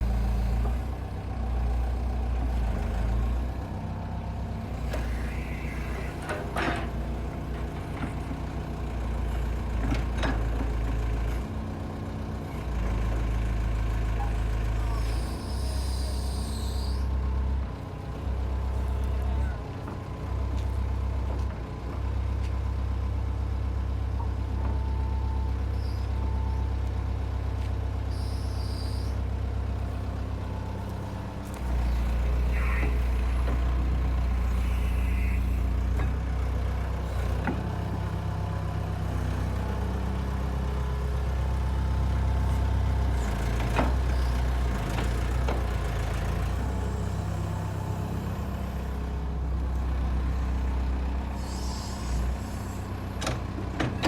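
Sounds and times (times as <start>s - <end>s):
excavator diesel engine rumbling: 0.0s - 54.0s.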